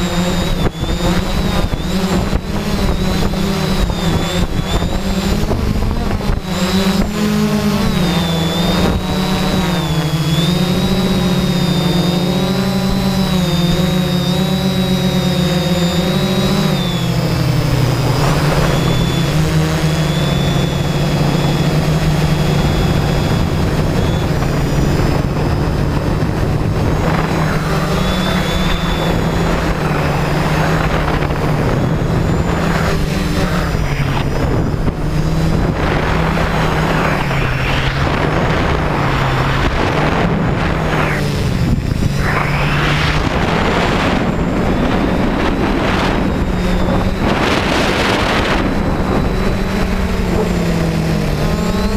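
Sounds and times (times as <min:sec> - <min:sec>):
drone motors and propellers whining: 0:00.0 - 0:51.9.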